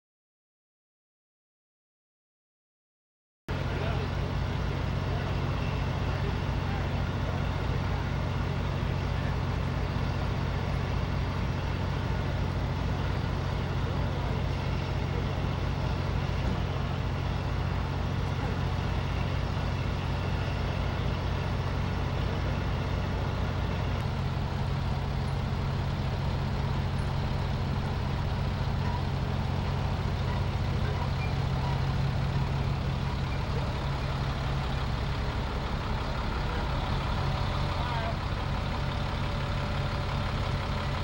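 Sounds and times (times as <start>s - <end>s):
heavy truck engine idling: 3.5s - 41.0s.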